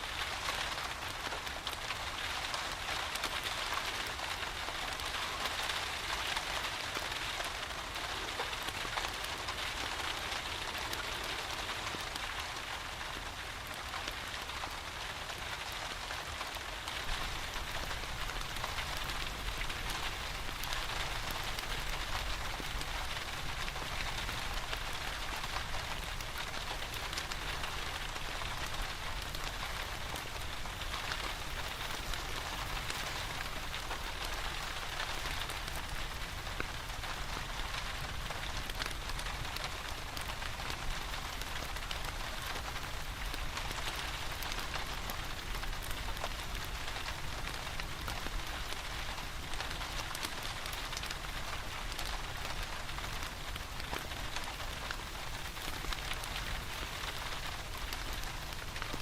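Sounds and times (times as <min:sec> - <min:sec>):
steady rain falling: 0:00.0 - 0:59.0
wood fire crackling: 0:00.1 - 0:59.0.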